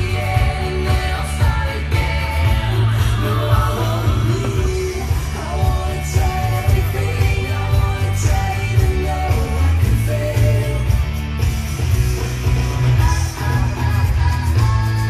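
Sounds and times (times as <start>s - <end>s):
music with singing and heavy bass: 0.0s - 15.0s.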